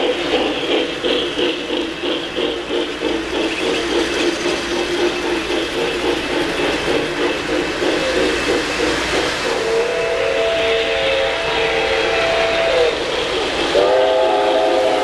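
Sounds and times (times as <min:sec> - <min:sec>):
model train wheels clattering: 0:00.0 - 0:15.0.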